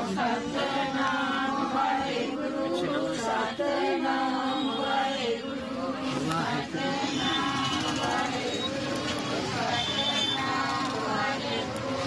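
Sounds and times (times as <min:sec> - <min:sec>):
people talking: 0:00.0 - 0:04.8, 0:05.4 - 0:12.0
voices chanting devotional recitation: 0:00.0 - 0:12.0.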